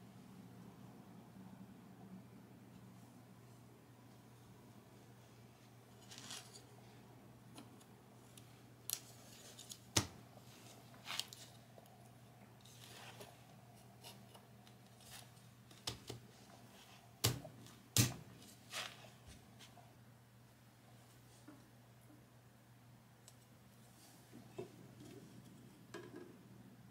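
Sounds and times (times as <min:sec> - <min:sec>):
low steady hum: 0:00.0 - 0:26.9.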